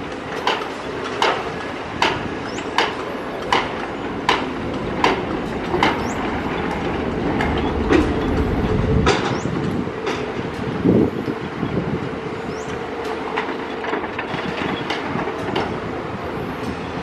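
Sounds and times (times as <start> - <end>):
heavy construction machinery running: 0.0 - 17.0
low engine rumble: 1.8 - 17.0.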